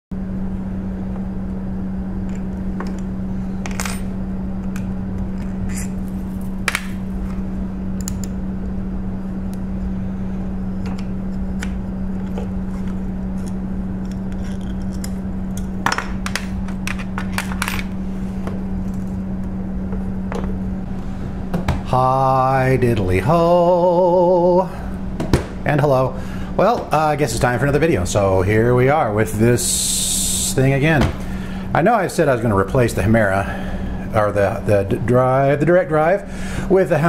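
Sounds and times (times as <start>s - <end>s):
steady low hum: 0.1s - 37.0s.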